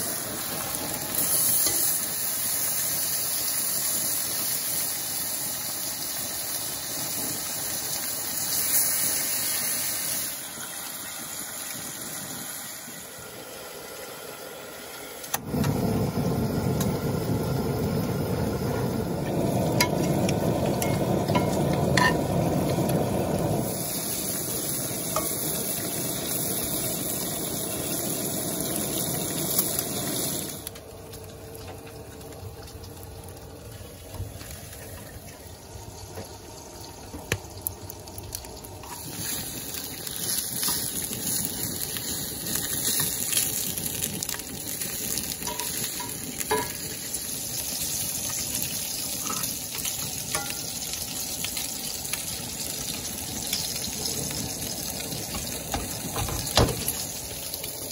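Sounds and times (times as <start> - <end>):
bacon sizzling in a skillet: 0.0 - 57.9.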